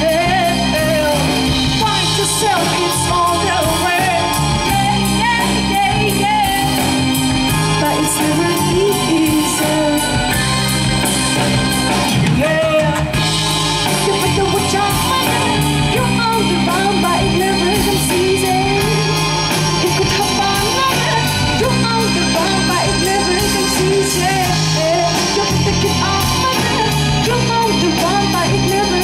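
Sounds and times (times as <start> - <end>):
person singing: 0.0 - 10.4, 12.3 - 29.0
live rock band playing: 0.0 - 29.0.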